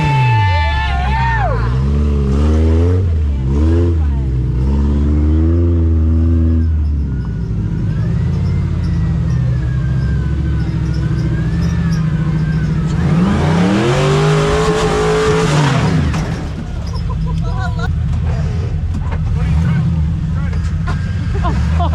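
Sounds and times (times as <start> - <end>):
engine revving under load: 0.0 - 21.9.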